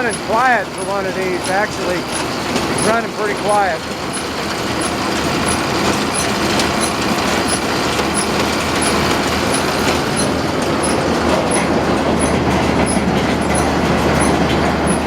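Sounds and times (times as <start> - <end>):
baler machine running: 0.0 - 15.0.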